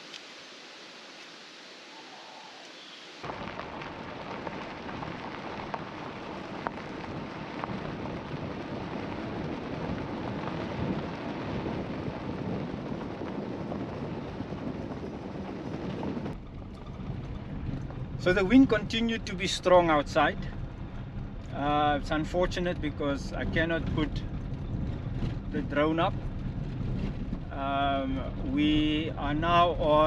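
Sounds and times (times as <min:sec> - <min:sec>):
wind buffeting microphone: 0:03.2 - 0:30.0.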